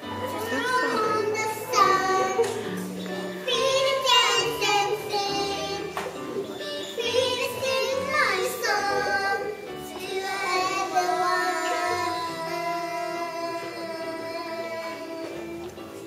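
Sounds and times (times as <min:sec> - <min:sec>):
girls singing a slow ballad: 0:00.4 - 0:15.6.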